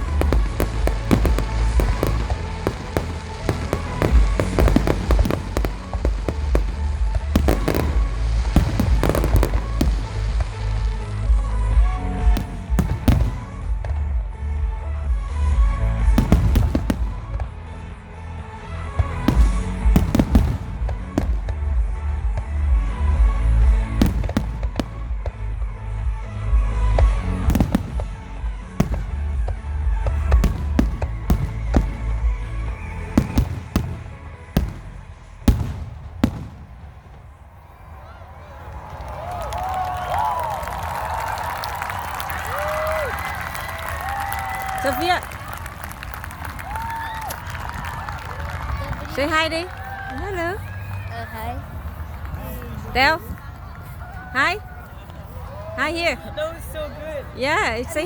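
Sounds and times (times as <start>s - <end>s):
music: 0.0s - 38.0s, 38.7s - 58.0s
firework bursts and crackling: 0.0s - 56.4s.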